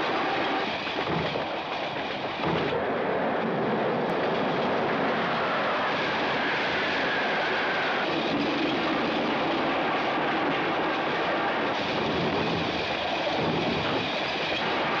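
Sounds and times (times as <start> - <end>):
train rushing rumble: 0.0 - 15.0.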